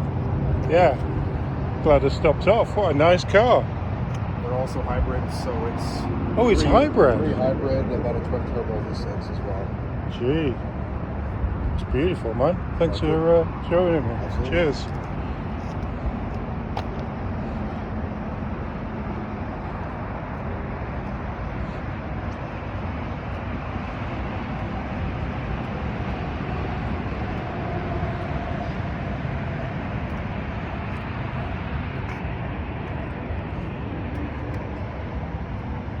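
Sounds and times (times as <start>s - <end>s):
vehicle running rumble: 0.0s - 36.0s.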